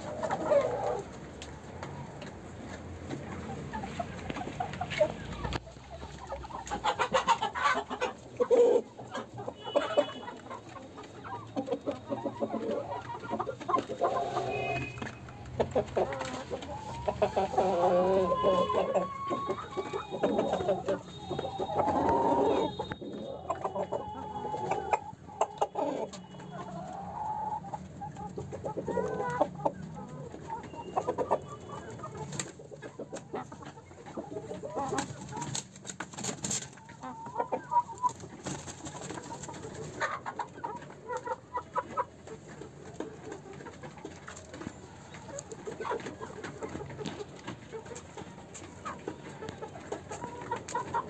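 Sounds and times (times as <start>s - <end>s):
hens clucking: 0.0s - 51.0s.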